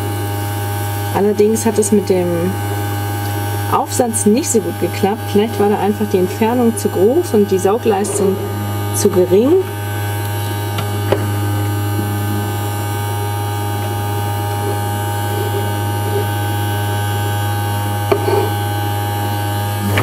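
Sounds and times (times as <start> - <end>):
toy vacuum motor humming: 0.0 - 20.0.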